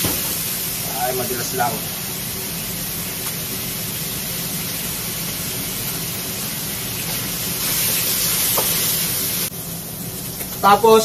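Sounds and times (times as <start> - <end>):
meat and onions sizzling in wok: 0.0 - 10.7.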